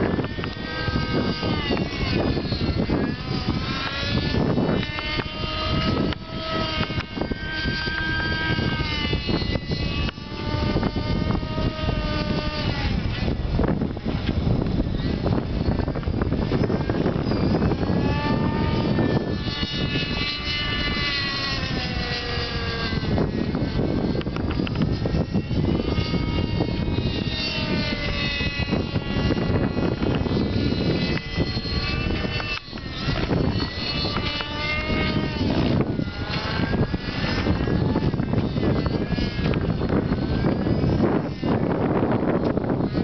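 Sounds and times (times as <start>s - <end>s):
model helicopter engine whine: 0.0s - 43.0s
rotor rumble: 0.0s - 43.0s.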